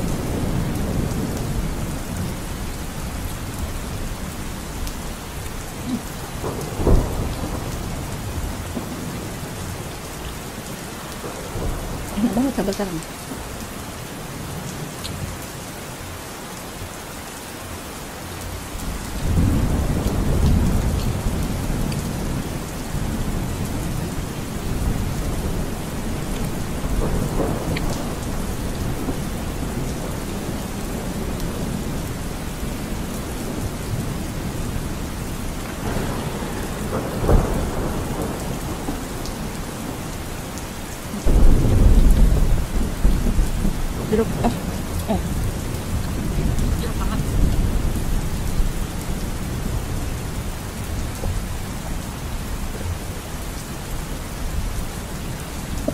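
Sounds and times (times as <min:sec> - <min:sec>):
rolling thunder: 0:00.0 - 0:12.7, 0:18.8 - 0:55.9
steady rain falling: 0:00.0 - 0:55.9.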